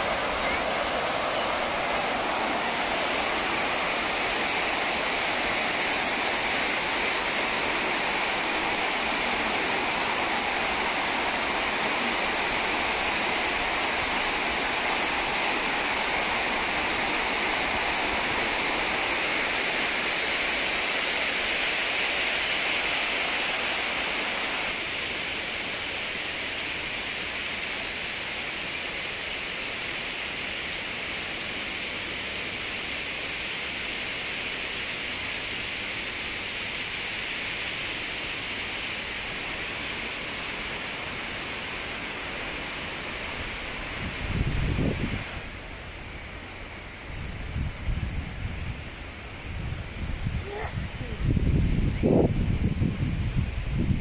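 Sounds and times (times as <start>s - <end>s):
river water pouring over weir: 0.0s - 54.0s.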